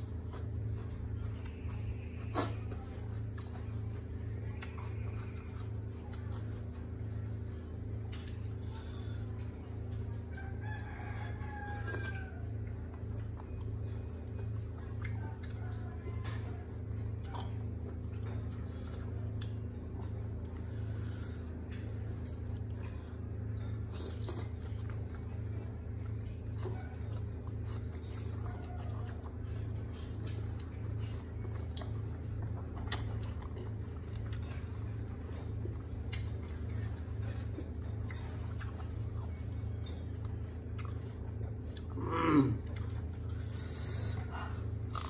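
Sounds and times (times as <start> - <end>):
person chewing: 0.0 - 10.8, 11.6 - 15.8, 17.0 - 45.0
steady low hum: 0.0 - 45.0.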